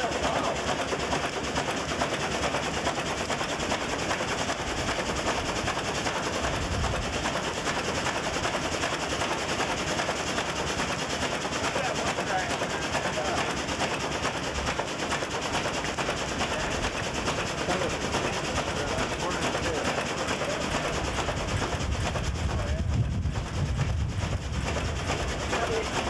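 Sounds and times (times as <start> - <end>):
steam pump exhaust puffs: 0.0 - 26.0.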